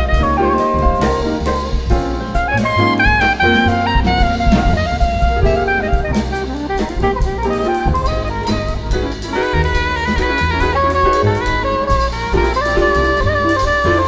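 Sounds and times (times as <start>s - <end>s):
bass: 0.0s - 14.0s
cymbals: 0.0s - 14.0s
drum kit: 0.0s - 14.0s
saxophone melody: 0.0s - 14.0s.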